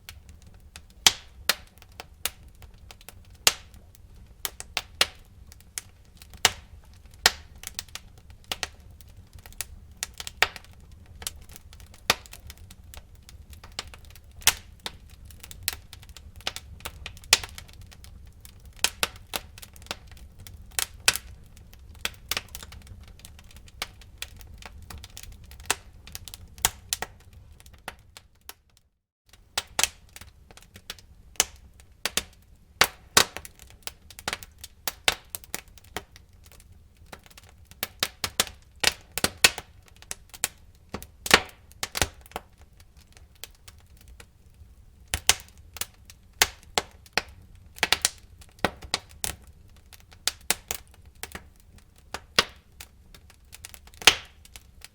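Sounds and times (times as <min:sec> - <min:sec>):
low rumble of flames: 0:00.0 - 0:28.6, 0:29.3 - 0:54.9
wood fire crackling: 0:00.0 - 0:54.9.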